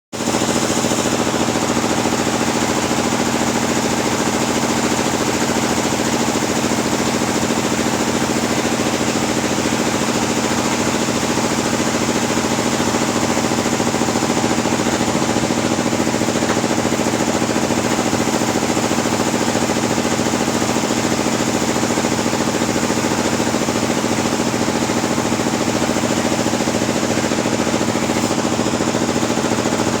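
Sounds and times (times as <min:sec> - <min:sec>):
sawmill machinery drone: 0:00.2 - 0:30.0.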